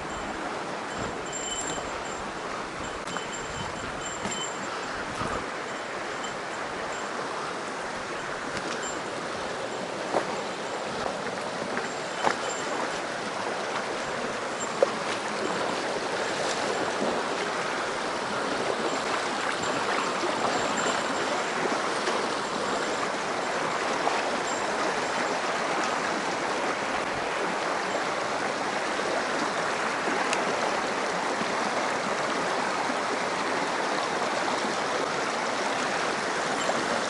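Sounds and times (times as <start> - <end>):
stream water flowing: 0.0 - 37.0.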